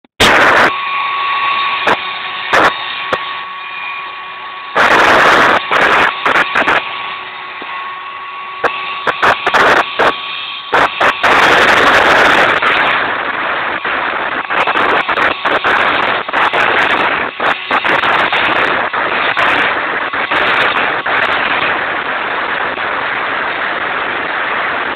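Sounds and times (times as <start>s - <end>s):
router bit cutting wood: 0.2s - 24.9s
router spindle whining: 0.2s - 24.9s.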